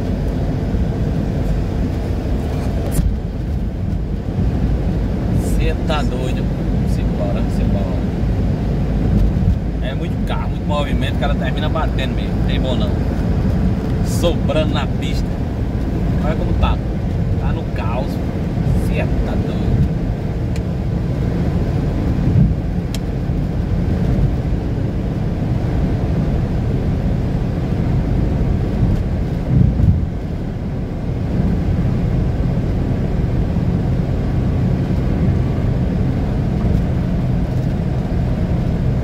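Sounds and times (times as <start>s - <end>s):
vehicle engine and road rumble: 0.0s - 39.0s.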